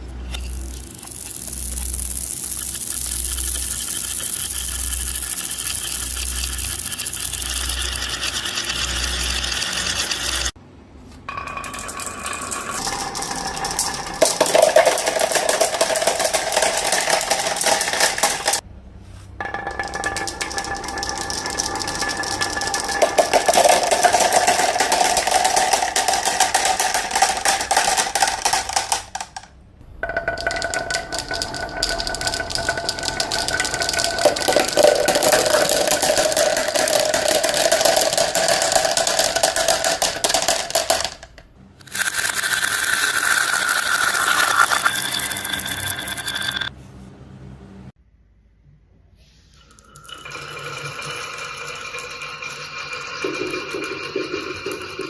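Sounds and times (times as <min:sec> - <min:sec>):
marbles rattling through marble run: 0:00.0 - 0:10.6, 0:11.3 - 0:18.6, 0:19.4 - 0:46.7, 0:49.7 - 0:55.0.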